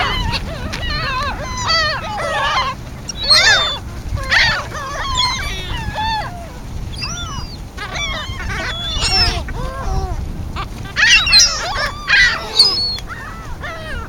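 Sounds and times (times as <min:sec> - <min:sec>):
flock of birds calling: 0:00.0 - 0:14.0
low steady rumble: 0:00.0 - 0:14.0.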